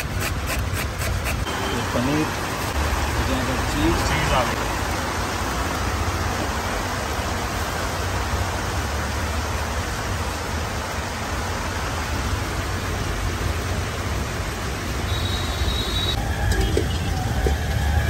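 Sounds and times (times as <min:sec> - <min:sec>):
street stall background hiss: 0:00.0 - 0:18.0.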